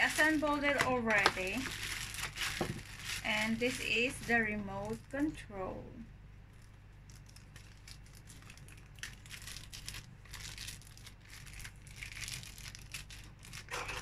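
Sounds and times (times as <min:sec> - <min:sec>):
plastic bag crinkling: 0:00.0 - 0:05.5, 0:06.5 - 0:14.0.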